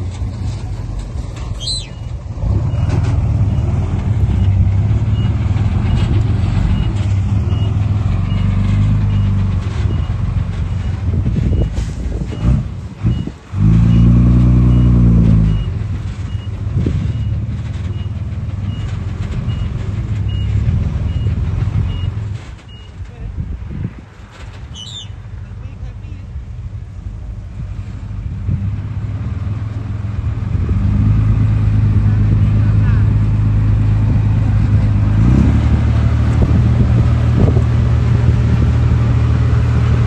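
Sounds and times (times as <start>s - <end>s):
diesel earthmoving machine revving: 0.0s - 22.6s, 27.1s - 40.0s.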